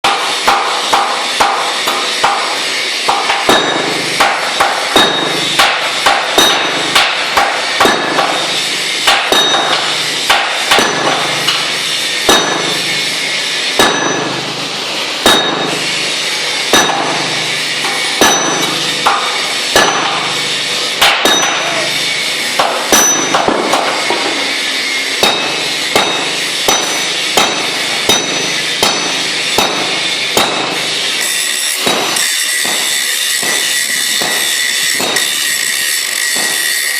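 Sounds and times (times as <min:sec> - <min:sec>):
hammer striking metal: 0:00.0 - 0:36.9.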